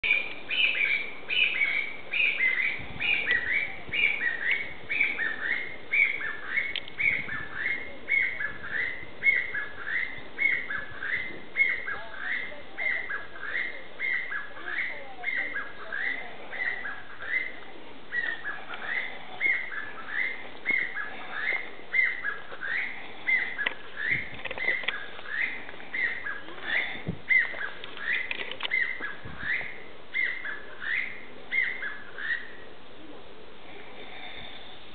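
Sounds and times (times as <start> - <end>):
partridge calling shrill notes: 0.0 - 32.6.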